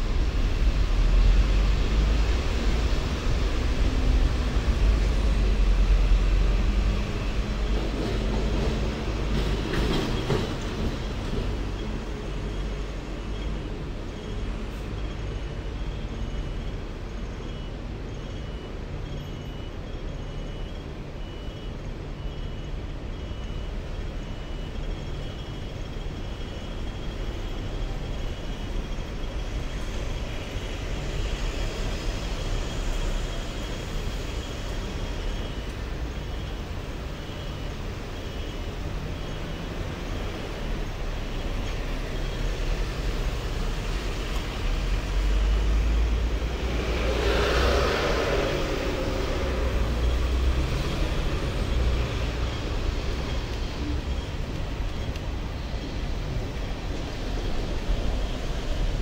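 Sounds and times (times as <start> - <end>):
road traffic: 0.0 - 59.0
tram rumbling on rails: 0.0 - 59.0.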